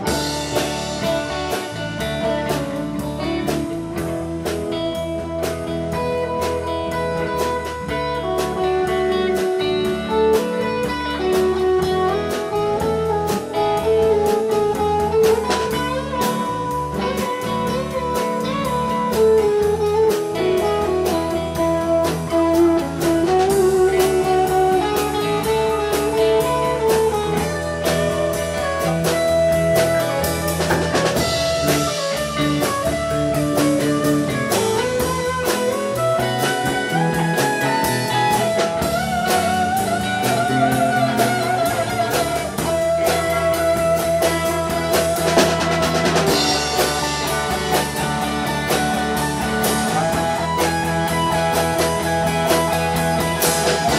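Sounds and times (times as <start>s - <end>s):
blues music: 0.0s - 53.9s
drum kit beat: 0.0s - 53.9s
electric guitar: 0.0s - 53.9s.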